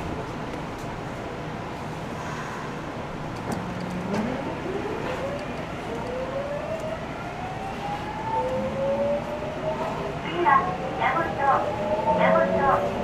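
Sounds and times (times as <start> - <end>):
train car rumbling on track: 0.0 - 13.0.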